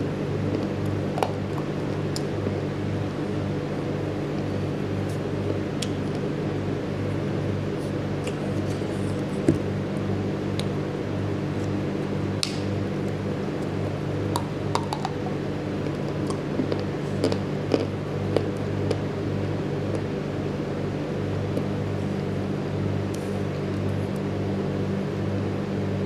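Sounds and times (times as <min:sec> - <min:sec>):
steady droning hum: 0:00.0 - 0:26.0.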